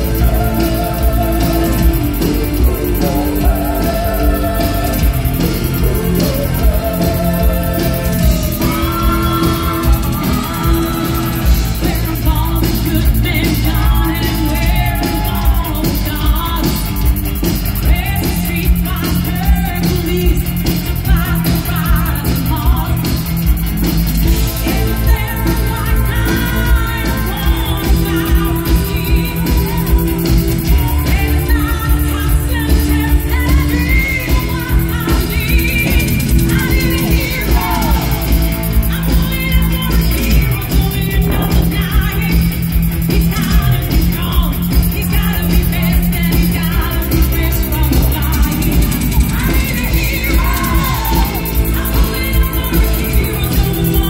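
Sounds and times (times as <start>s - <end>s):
live rock band: 0.0s - 54.0s
woman singing lead: 0.0s - 54.0s.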